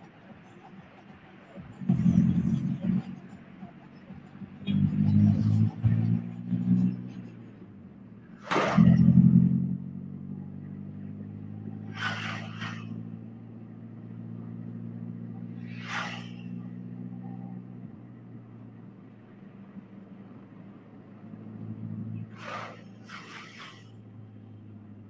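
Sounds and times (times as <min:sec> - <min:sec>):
car engine cruising: 0:00.0 - 0:25.0
passing traffic whooshes: 0:00.0 - 0:25.0
truck rushing past: 0:01.0 - 0:25.0.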